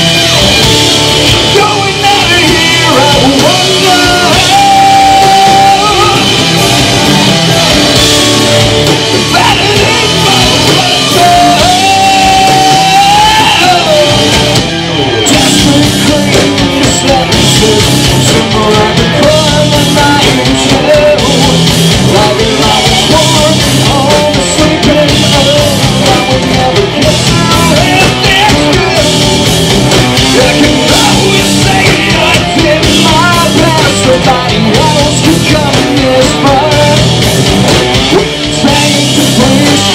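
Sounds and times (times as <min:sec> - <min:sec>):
bass guitar: 0:00.0 - 0:39.9
distorted electric guitars: 0:00.0 - 0:39.9
drum kit: 0:00.0 - 0:39.9
person singing: 0:01.3 - 0:06.8, 0:08.4 - 0:14.4, 0:15.0 - 0:37.2, 0:38.0 - 0:39.9.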